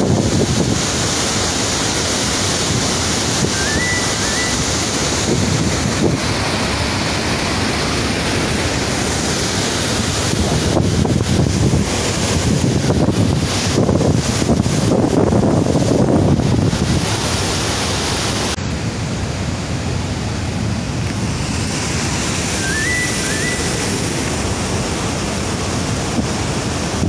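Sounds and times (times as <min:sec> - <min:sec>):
floodwater rushing through spillway: 0:00.0 - 0:27.0
wind buffeting microphone: 0:00.0 - 0:27.0.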